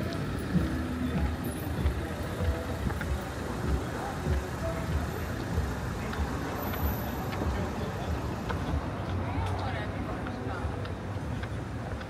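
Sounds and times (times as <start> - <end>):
faint voices: 0.0 - 12.0
road traffic passing: 0.0 - 12.0
walking footsteps: 0.0 - 12.0.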